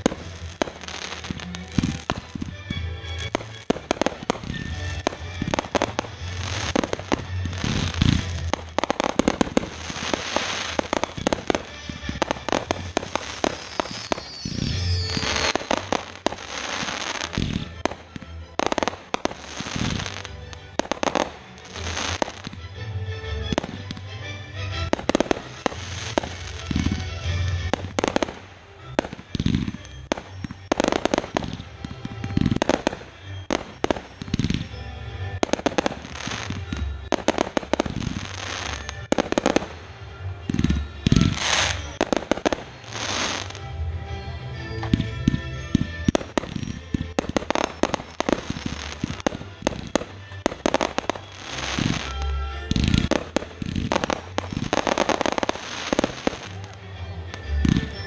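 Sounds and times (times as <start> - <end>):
fireworks bursting and banging: 0.0 - 58.0
fireworks crackling: 0.0 - 58.0.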